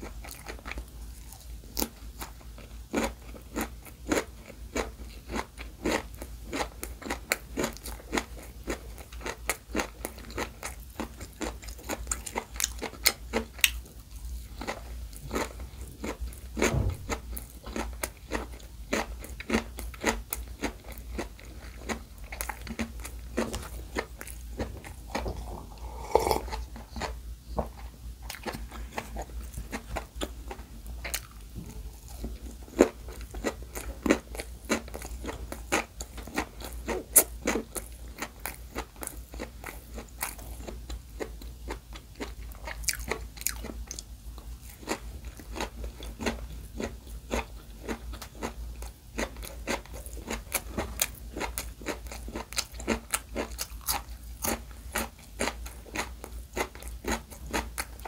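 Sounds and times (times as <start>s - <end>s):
crisp chewing crunches: 0.0s - 27.2s, 28.2s - 58.0s.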